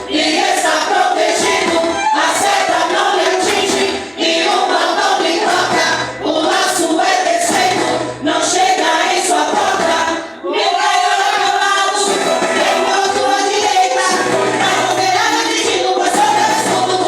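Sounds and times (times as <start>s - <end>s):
recorded backing track: 0.0s - 17.0s
women's vocal group singing gospel: 0.0s - 17.0s.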